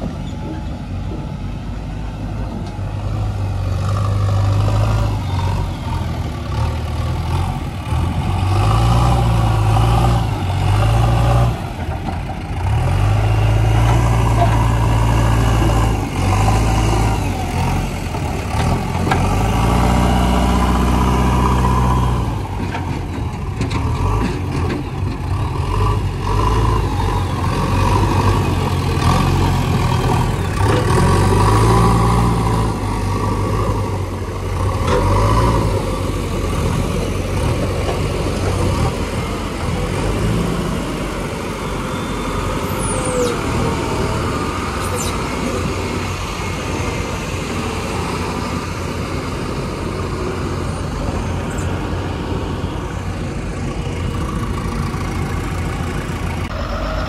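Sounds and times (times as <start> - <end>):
diesel engine revving: 1.6 - 57.0.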